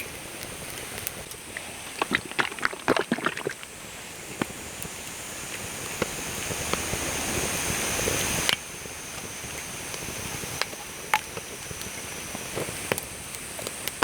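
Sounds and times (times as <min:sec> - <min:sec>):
campfire crackling and popping: 0:00.0 - 0:14.0
steady hiss: 0:00.0 - 0:14.0.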